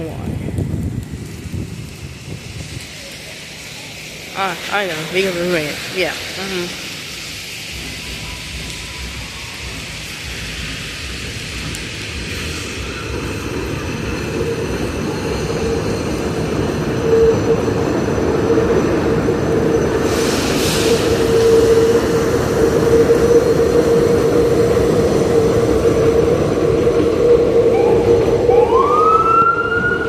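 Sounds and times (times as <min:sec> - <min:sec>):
subway train rumbling past: 0:00.0 - 0:30.0
train whine: 0:00.0 - 0:30.0.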